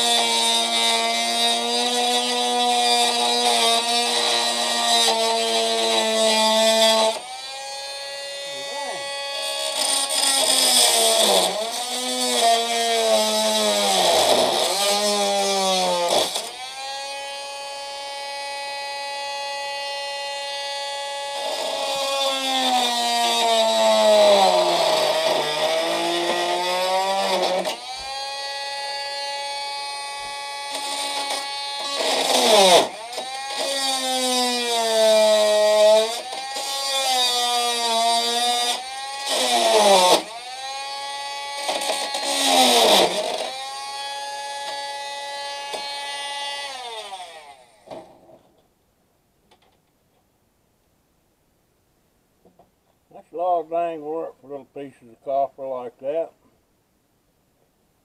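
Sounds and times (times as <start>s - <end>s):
power saw cutting copper tubing: 0.0s - 48.5s.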